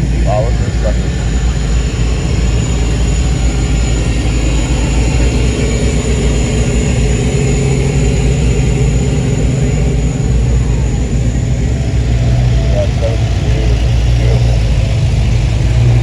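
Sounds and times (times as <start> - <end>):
car engine idling low: 0.0 - 16.0.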